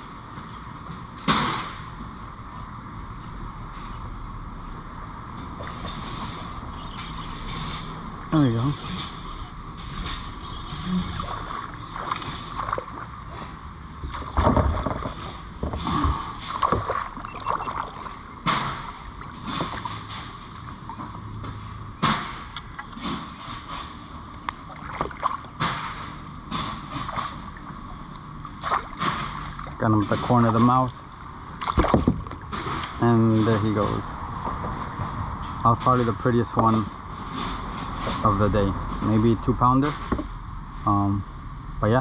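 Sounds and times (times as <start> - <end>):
water splashing and sloshing: 4.8 - 40.9.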